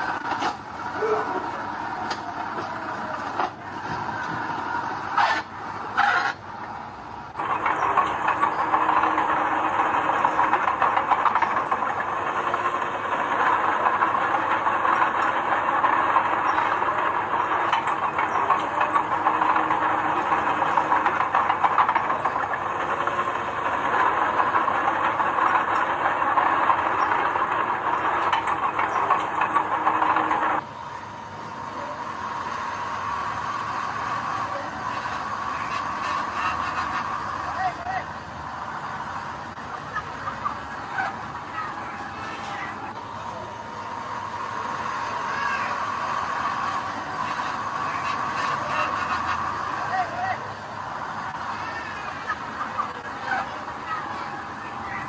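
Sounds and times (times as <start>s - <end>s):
heavy machinery rattling: 0.0s - 55.0s.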